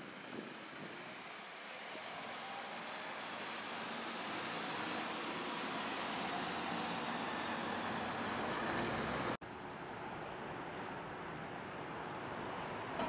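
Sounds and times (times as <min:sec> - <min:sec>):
city bus driving past: 0:00.0 - 0:13.0
street traffic noise: 0:00.0 - 0:13.0.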